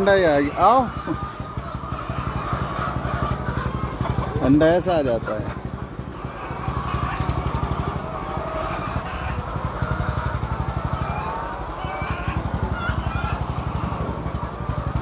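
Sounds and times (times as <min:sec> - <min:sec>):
hens clucking softly: 0:00.0 - 0:15.0
small engine running: 0:02.0 - 0:15.0.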